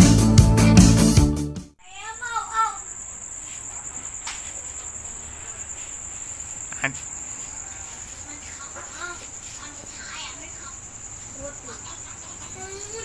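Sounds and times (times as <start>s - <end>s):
insect trill: 1.8s - 13.0s.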